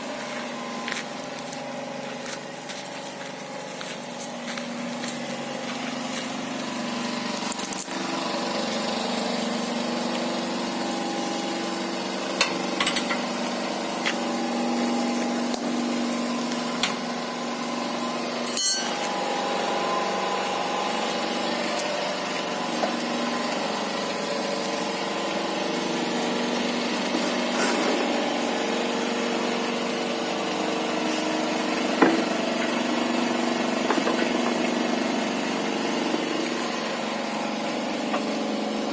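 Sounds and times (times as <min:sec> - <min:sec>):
motor-driven machine humming: 0:00.0 - 0:38.9.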